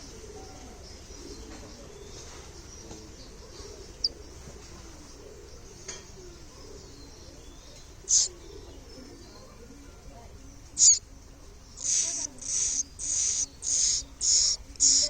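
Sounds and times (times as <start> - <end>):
baby birds chirping: 0.0 - 15.0.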